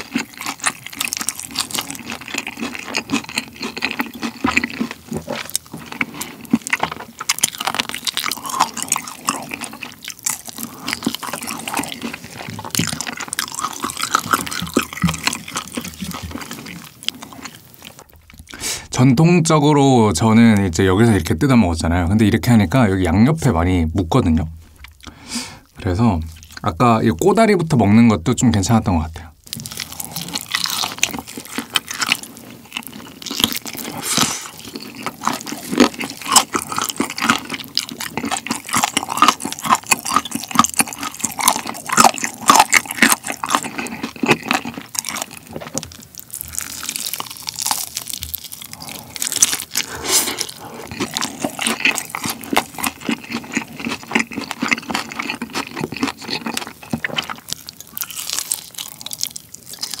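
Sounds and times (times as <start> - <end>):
crunching fried coating: 0.0 - 19.0, 29.4 - 60.0
wet chewing: 0.0 - 19.0, 24.6 - 26.8, 29.4 - 60.0.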